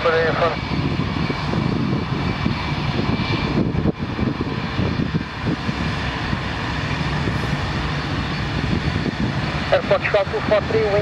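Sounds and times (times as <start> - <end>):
jet engines rumbling with whine: 0.0 - 11.0.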